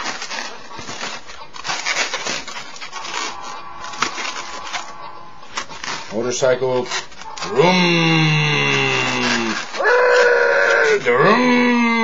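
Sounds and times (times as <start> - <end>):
latex balloons rubbing and squeaking: 0.0 - 12.0.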